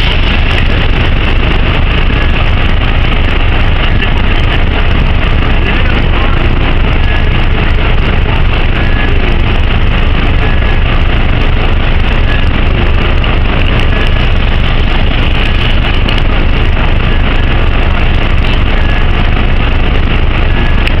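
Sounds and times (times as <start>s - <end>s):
loud engine rumble: 0.0s - 21.0s.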